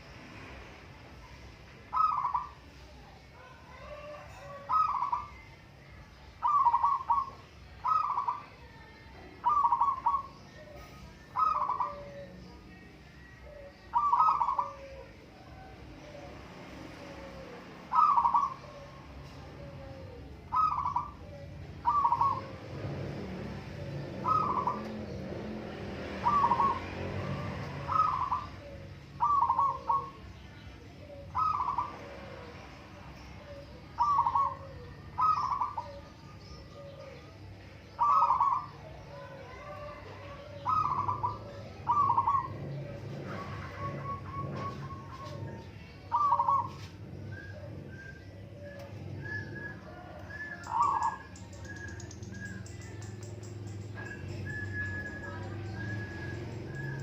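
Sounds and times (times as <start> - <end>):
doves cooing: 1.9 - 5.8, 6.4 - 8.7, 9.3 - 57.0.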